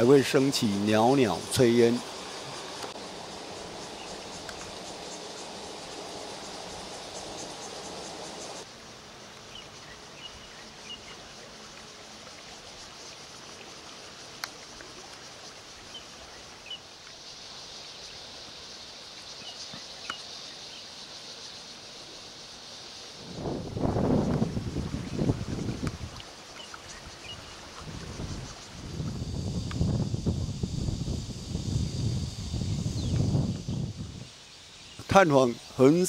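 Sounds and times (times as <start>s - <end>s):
water rushing down a canal: 0.0s - 29.4s
faint high insect hiss: 0.0s - 36.0s.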